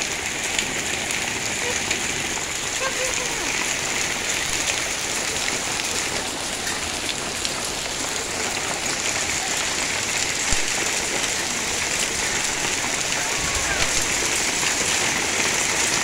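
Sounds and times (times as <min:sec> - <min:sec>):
hailstones ticking on surfaces: 0:00.0 - 0:16.0
hiss of falling hail and rain: 0:00.0 - 0:16.0.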